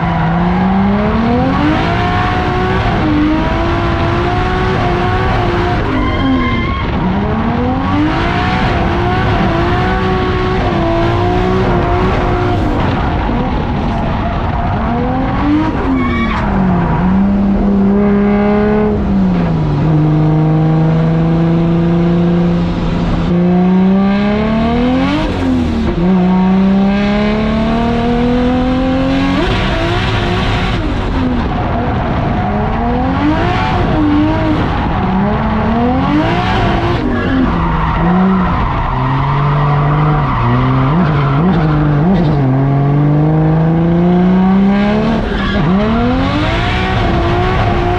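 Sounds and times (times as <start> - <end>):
car engine revving hard: 0.0 - 47.9.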